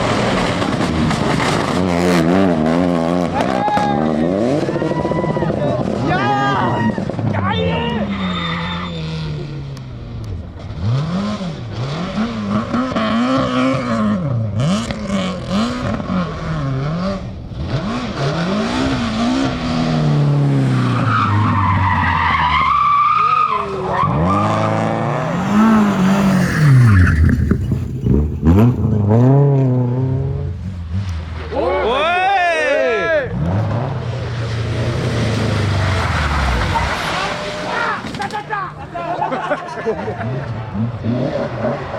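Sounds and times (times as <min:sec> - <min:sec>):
rally car engine revving: 0:00.0 - 0:31.6, 0:33.2 - 0:41.9.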